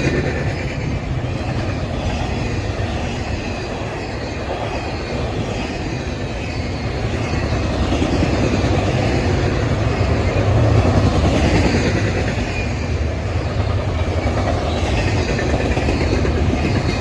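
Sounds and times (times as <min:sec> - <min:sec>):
steel wheels on rail: 0:00.0 - 0:17.0.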